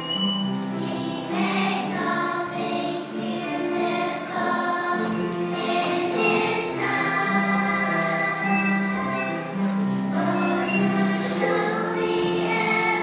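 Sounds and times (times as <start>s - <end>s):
children's choir singing: 0.0s - 13.0s
musical accompaniment: 0.0s - 13.0s.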